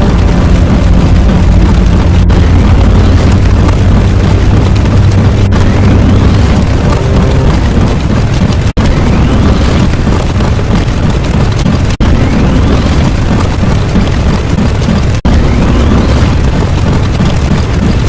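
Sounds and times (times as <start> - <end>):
explosion-like rumble: 0.0 - 18.0.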